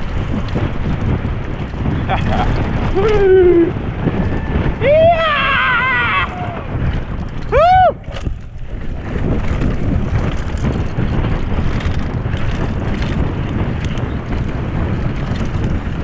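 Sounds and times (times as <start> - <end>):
bike tyres rumbling on gravel: 0.0 - 16.0
wind rushing over microphone: 0.0 - 16.0.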